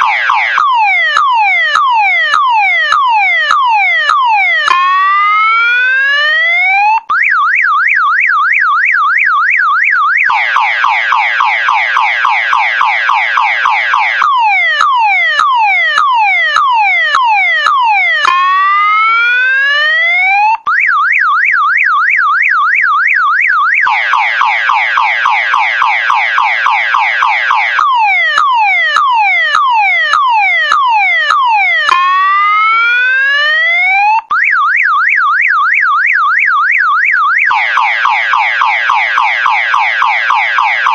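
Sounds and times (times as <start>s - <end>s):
car alarm siren cycling tones: 0.0s - 40.9s.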